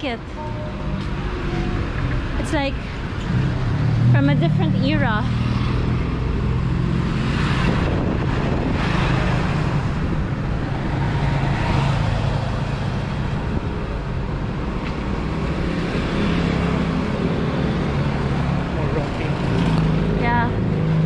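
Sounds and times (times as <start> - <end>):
road traffic humming: 0.0 - 21.0.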